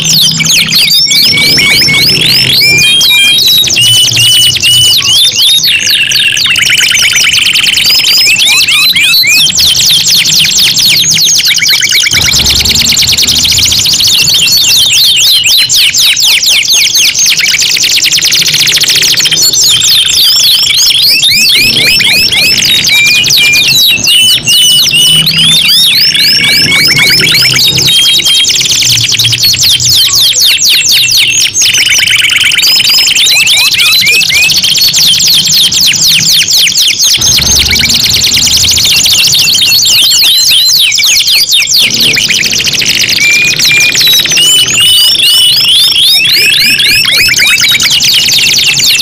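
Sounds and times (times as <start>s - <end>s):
canaries singing trills: 0.0s - 49.0s.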